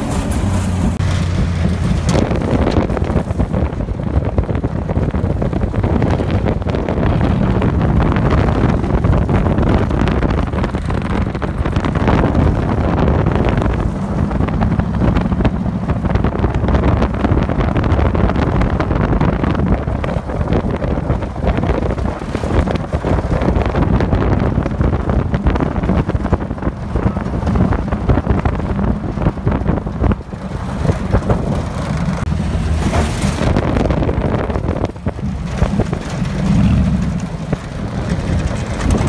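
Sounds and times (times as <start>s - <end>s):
vehicle engine running: 0.0s - 39.0s
wind buffeting microphone: 0.0s - 39.0s.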